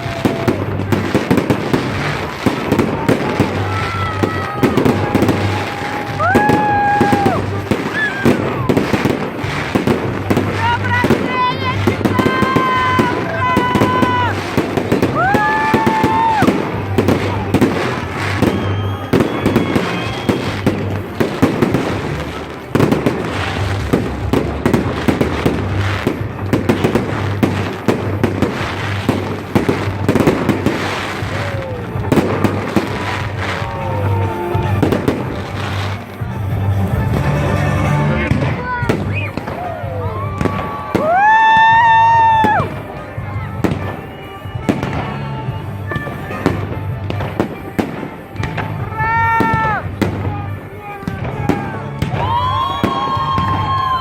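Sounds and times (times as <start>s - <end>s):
fireworks bursting with sharp bangs: 0.0s - 54.0s.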